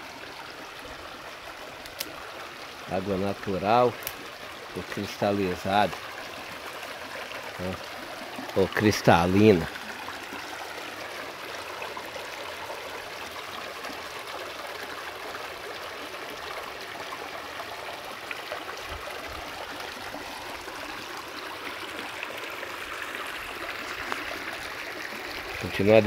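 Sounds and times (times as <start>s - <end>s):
stream trickling over stones: 0.0s - 26.0s.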